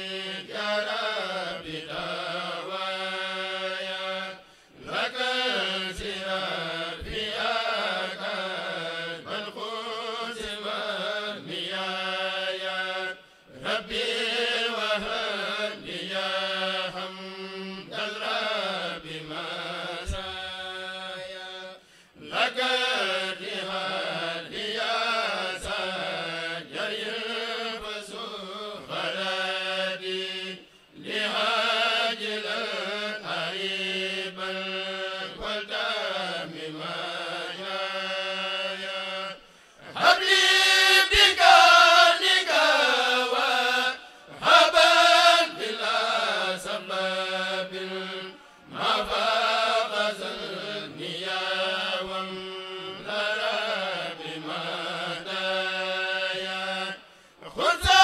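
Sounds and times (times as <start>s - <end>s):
men chanting devotional verse: 0.0s - 58.0s.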